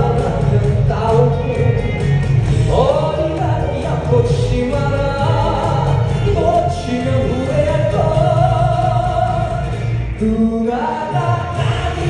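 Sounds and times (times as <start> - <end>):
live pop song through loudspeakers: 0.0 - 12.0.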